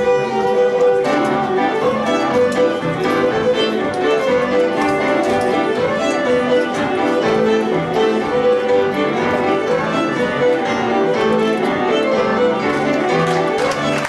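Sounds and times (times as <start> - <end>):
electric keyboard piano chords: 0.0 - 14.0
fiddle playing a tune: 0.0 - 14.0.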